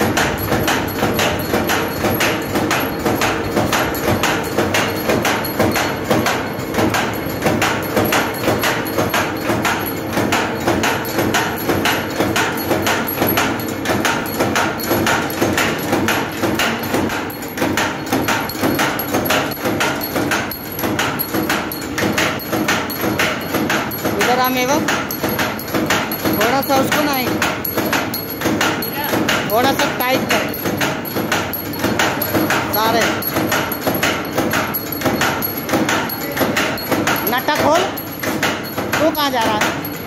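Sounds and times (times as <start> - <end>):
machine clattering knocks: 0.0 - 40.0
steady machine hum: 0.0 - 40.0.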